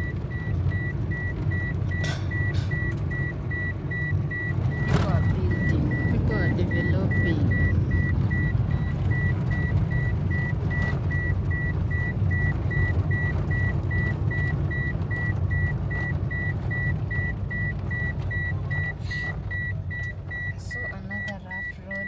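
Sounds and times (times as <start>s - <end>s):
car engine and road rumble: 0.0s - 22.0s
electronic warning beep: 0.0s - 22.0s.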